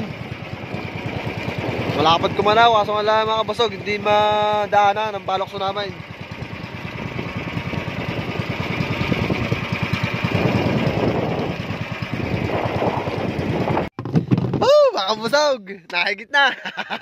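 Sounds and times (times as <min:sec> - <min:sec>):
small boat engine running: 0:00.0 - 0:14.6
wind: 0:00.0 - 0:17.0.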